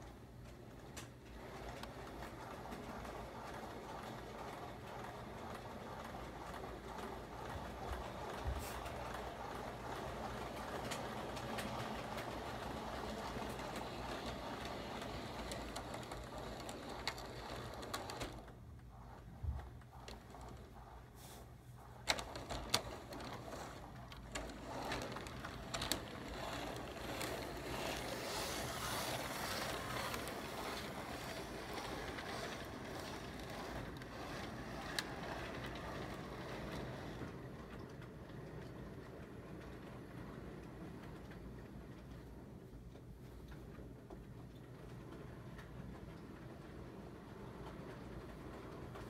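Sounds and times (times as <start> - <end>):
model train wheels clattering: 0.0 - 49.0.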